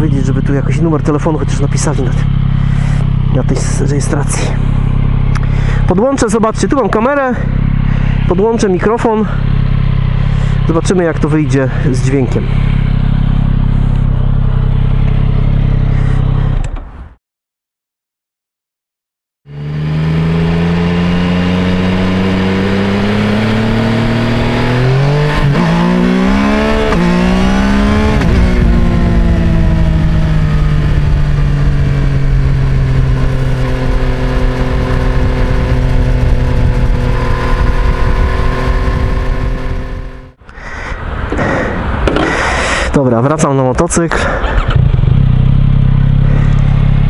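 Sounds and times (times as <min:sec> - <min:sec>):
motorcycle engine revving: 0:00.0 - 0:16.7, 0:19.5 - 0:42.7, 0:44.1 - 0:47.0.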